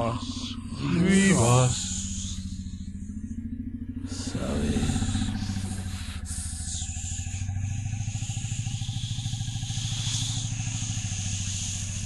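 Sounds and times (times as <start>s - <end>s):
low pulsing drone: 0.0s - 12.0s.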